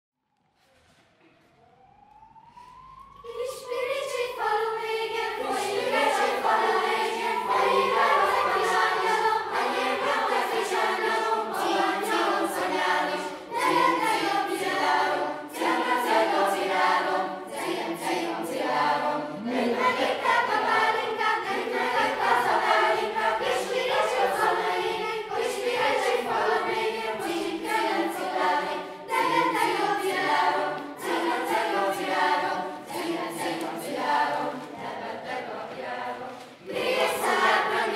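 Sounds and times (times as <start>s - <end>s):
children's choir singing: 3.2s - 37.9s.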